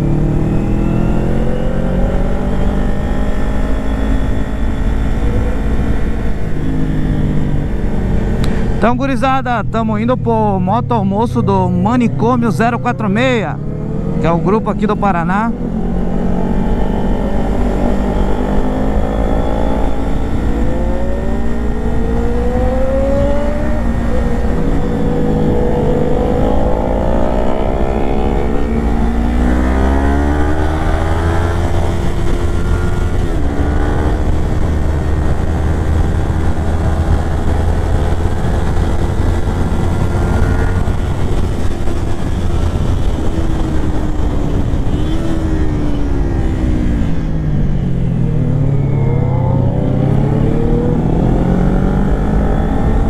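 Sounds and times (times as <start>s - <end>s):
motorcycle engine revving: 0.0s - 53.0s
wind and road noise: 0.0s - 53.0s.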